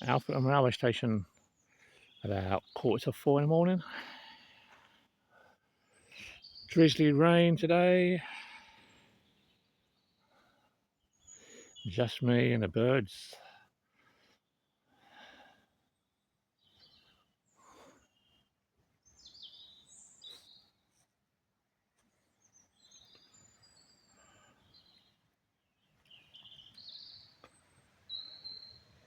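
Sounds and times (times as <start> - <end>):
faint birdsong: 0.0 - 29.0.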